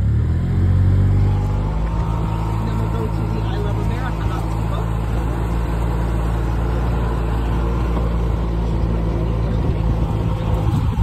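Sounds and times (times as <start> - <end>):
go-kart engine droning: 0.0 - 11.0.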